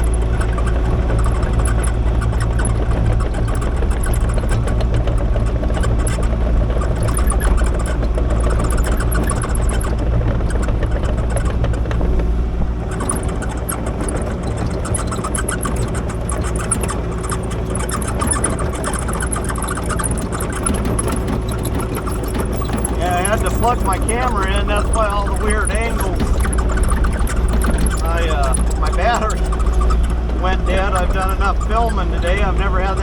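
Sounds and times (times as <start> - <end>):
diesel engine running: 0.0 - 33.0
light rattle: 0.0 - 33.0.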